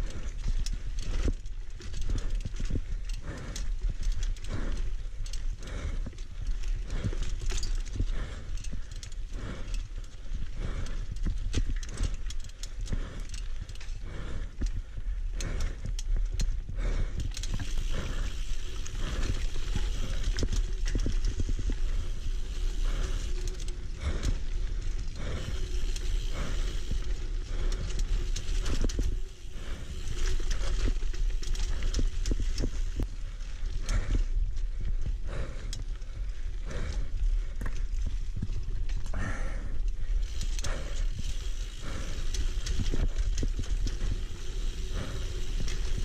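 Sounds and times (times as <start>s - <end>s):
bike rattling over bumps: 0.0s - 46.0s.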